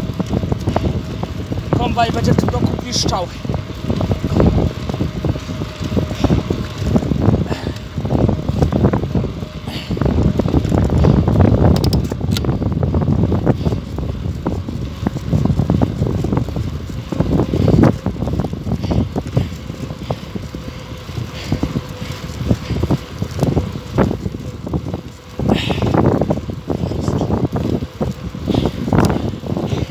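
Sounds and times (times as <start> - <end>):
bicycle clicks and rattles: 0.0 - 29.9
wind rumbling on microphone: 0.0 - 29.9.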